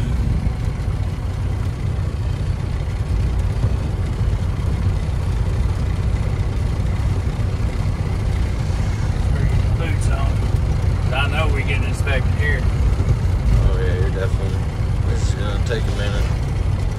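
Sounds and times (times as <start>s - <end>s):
diesel truck engine rumble: 0.0s - 16.9s.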